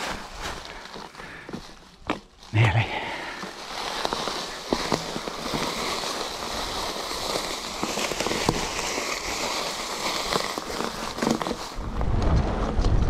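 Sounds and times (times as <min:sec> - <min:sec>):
tyres crushing dry leaves: 0:00.0 - 0:12.0
bike riding noise: 0:00.0 - 0:13.0.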